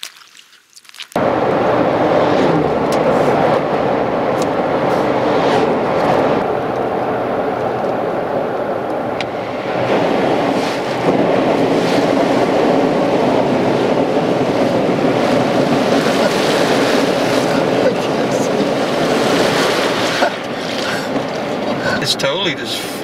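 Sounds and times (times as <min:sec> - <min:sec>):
car road and wind noise: 0:01.2 - 0:23.0.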